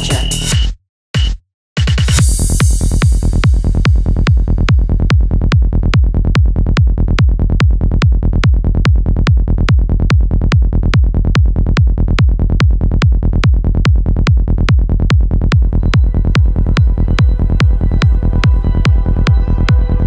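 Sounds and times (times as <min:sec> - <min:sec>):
rolling bassline: 0:00.0 - 0:00.6, 0:02.2 - 0:20.0
kick drum beat: 0:00.0 - 0:20.0.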